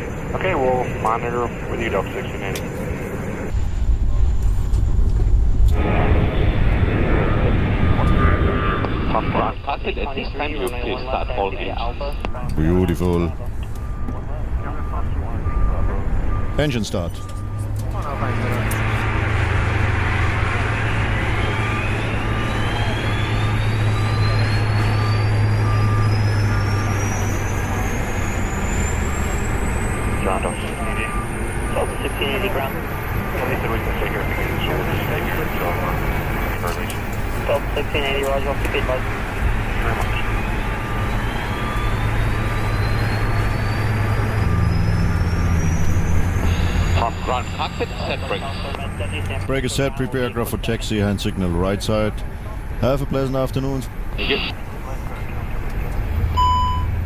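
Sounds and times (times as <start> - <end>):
jet engine whine rising: 0.0 - 57.0
low engine drone: 0.0 - 57.0.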